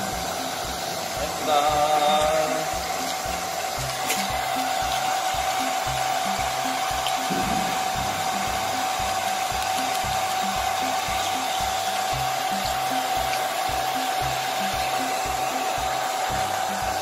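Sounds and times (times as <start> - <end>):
background music with low bass: 0.0 - 17.0
hair dryer blowing: 0.0 - 17.0.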